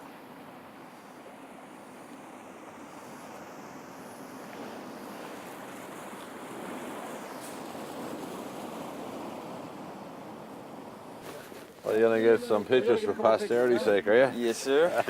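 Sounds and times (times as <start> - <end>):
surf washing on rocky shore: 0.0 - 15.0.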